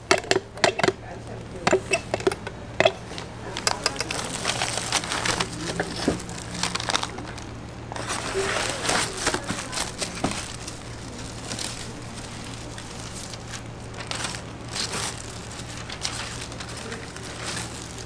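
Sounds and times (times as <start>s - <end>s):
steady low hum: 0.0s - 18.0s
paper and cardboard rustling: 1.6s - 18.0s.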